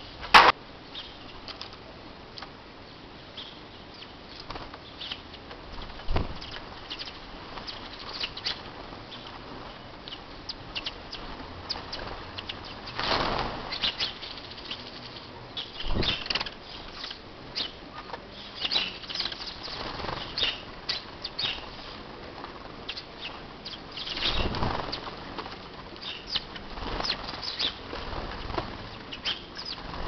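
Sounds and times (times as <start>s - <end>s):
small birds chirping: 0.8s - 1.8s, 2.4s - 30.0s
wings flapping: 4.3s - 4.8s, 5.7s - 15.2s, 15.8s - 30.0s.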